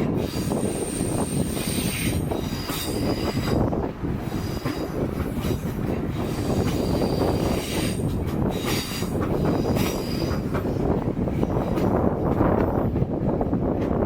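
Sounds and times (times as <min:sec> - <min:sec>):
train wheel rumble: 0:00.0 - 0:14.0
train wheel squeal: 0:00.1 - 0:12.6.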